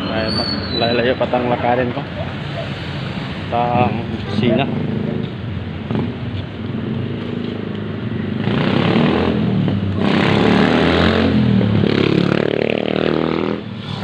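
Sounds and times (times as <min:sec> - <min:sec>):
vehicles passing close by: 0:00.0 - 0:14.0.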